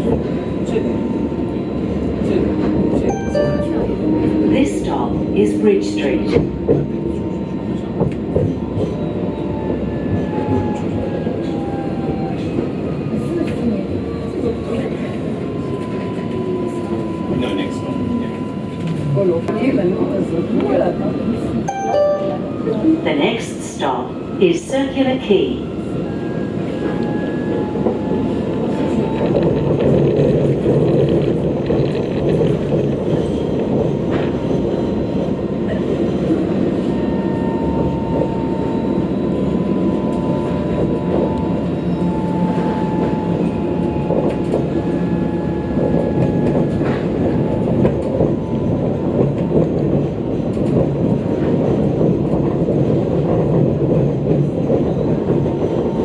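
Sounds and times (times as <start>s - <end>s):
tram low rumble: 0.0s - 56.0s.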